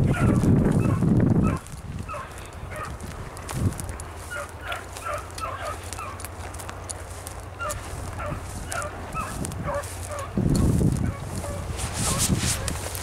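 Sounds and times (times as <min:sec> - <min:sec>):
dogs baying: 0:00.0 - 0:03.1, 0:04.2 - 0:06.6, 0:07.5 - 0:12.8
dry grass crackling underfoot: 0:00.0 - 0:13.0
wind rumble on microphone: 0:00.0 - 0:13.0.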